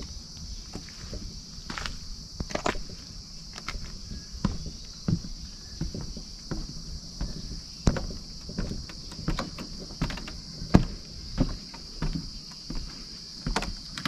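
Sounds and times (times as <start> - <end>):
footsteps on wooden planks: 0.0 - 14.0
insects chirping: 0.0 - 14.0.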